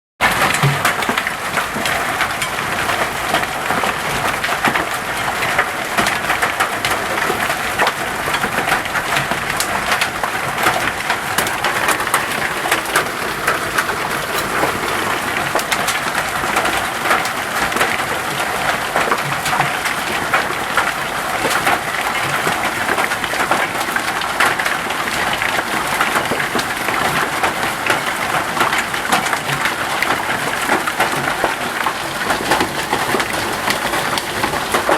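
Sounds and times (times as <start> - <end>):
hail striking hard surfaces: 0.2 - 34.9.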